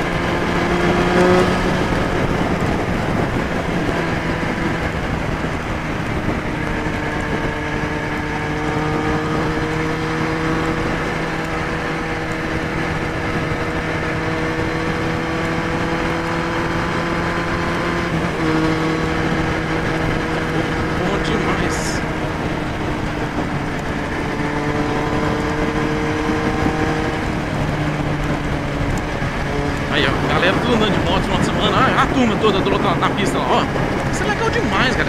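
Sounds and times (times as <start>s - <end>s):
motorcycle engine cruising: 0.0s - 35.0s
wind and road noise: 0.0s - 35.0s.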